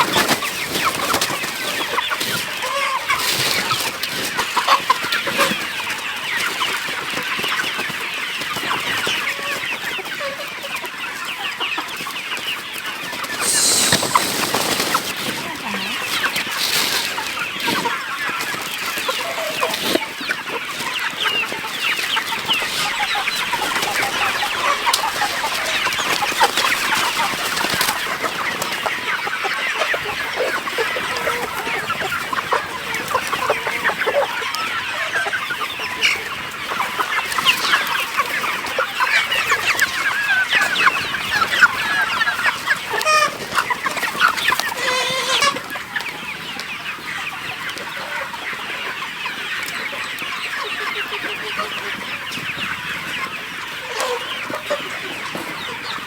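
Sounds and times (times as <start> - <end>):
chickens clucking and calling: 0.0 - 56.0.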